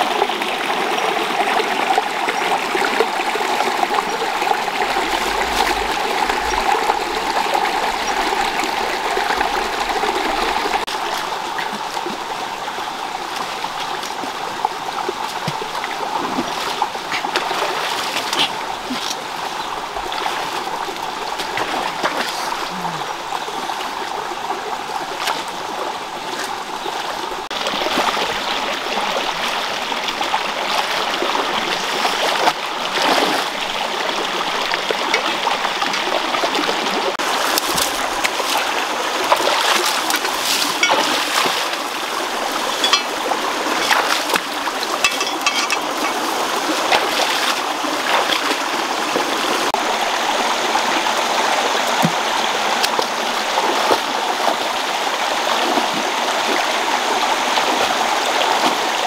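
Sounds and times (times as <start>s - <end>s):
rocky stream running: 0.0s - 59.0s
splashes of wading: 2.6s - 59.0s.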